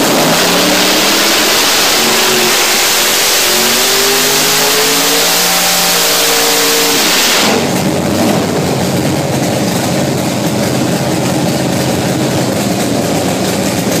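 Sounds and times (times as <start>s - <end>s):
drag car engine revving: 0.0s - 14.0s.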